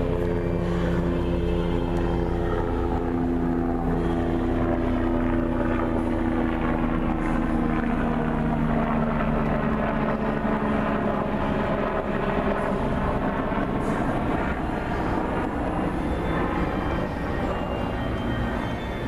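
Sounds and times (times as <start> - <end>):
engine-like drone: 0.0 - 19.0.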